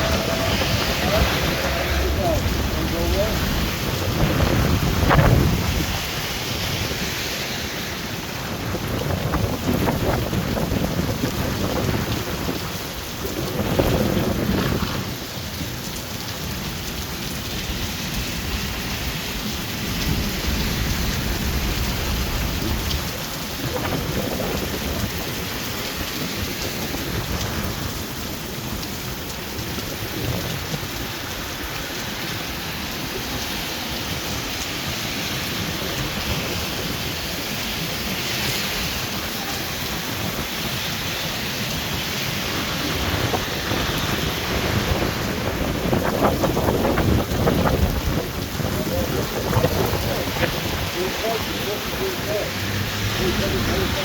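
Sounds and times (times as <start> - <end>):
thunder rumbling: 0.0 - 15.7, 17.6 - 31.0, 35.4 - 54.0
heavy rain pouring: 0.0 - 54.0.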